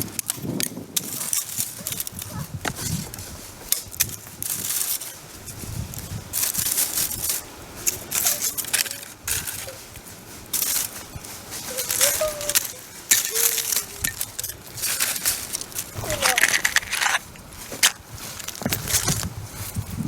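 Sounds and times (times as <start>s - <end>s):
footsteps on dry leaves: 0.0s - 20.0s.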